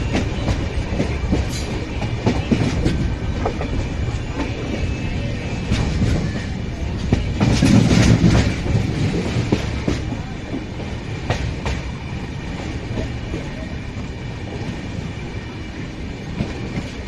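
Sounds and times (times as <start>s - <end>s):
train wheels clacking on rails: 0.0s - 17.0s.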